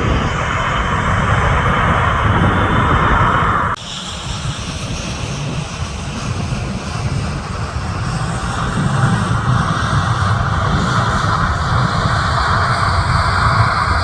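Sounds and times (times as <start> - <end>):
jet airliner engines rumbling: 0.0 - 14.0.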